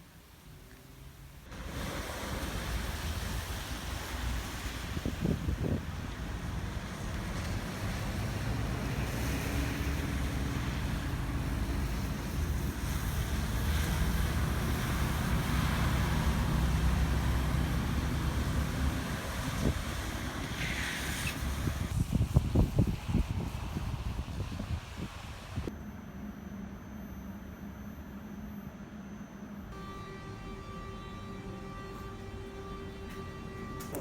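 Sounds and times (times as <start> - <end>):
electric train rumbling: 1.2 - 25.7, 29.6 - 34.0.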